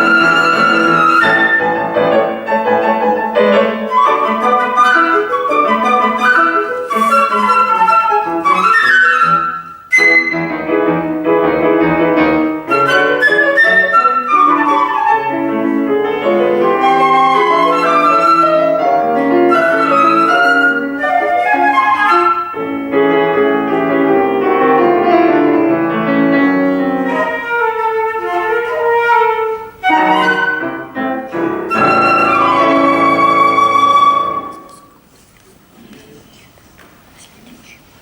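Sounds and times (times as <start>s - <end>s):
flute: 0.0s - 10.9s, 12.6s - 24.0s, 26.7s - 35.0s
piano accompaniment: 0.0s - 35.1s.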